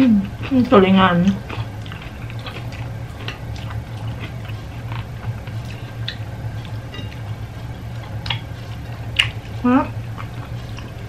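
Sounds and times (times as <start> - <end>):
steady low hum: 0.0 - 11.0
chewing clicks and smacks: 1.2 - 7.4, 8.0 - 11.0.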